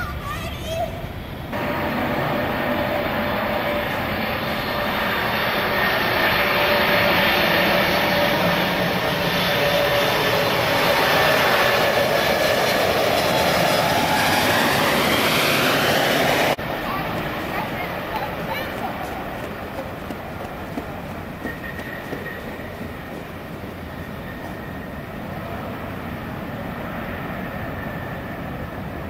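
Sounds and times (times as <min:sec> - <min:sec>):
jet airliner engines rushing: 0:00.0 - 0:29.0.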